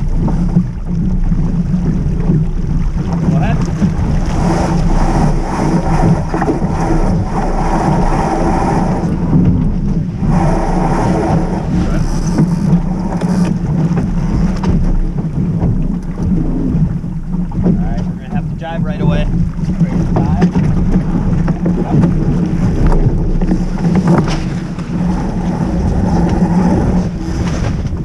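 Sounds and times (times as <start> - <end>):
water rushing past hull: 0.0 - 28.0
wind buffeting microphone: 0.0 - 28.0.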